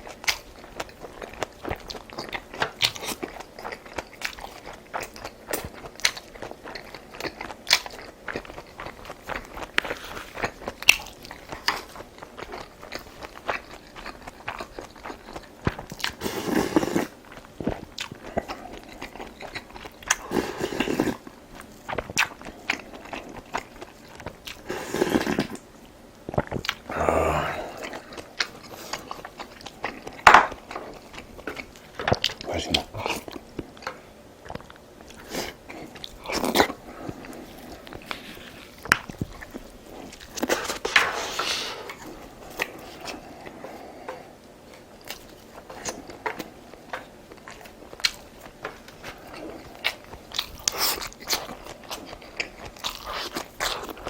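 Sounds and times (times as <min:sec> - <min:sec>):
person chewing and crunching: 0:00.0 - 0:54.0.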